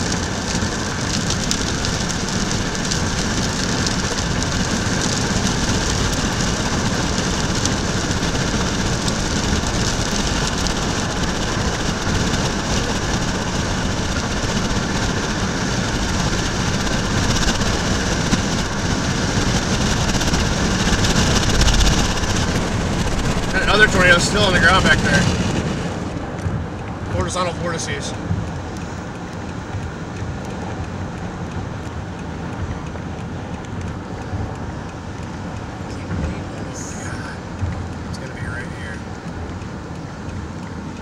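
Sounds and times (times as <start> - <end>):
storm wind and rain: 0.0 - 41.0
vehicle engine running: 0.0 - 41.0.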